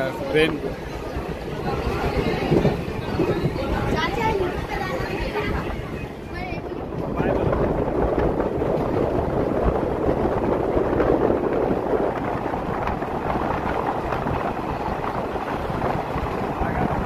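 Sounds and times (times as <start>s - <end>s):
train running noise: 0.0s - 17.0s
wind buffeting microphone: 0.0s - 17.0s.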